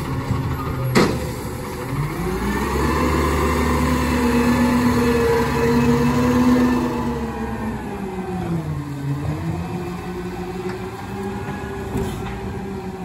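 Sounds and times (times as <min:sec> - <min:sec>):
garbage truck engine pulling away: 0:00.0 - 0:13.0.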